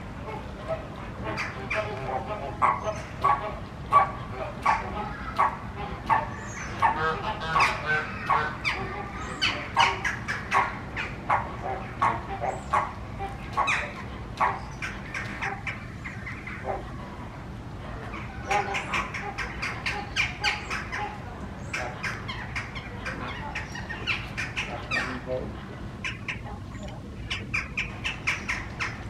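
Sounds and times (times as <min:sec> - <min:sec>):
flamingos honking: 0:00.0 - 0:29.0.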